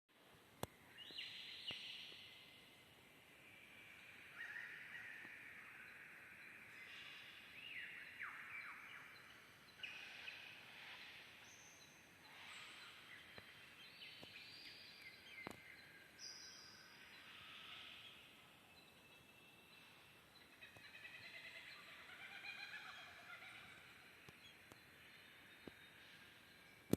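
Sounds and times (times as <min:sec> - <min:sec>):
birds singing and chirping: 0:03.8 - 0:26.9.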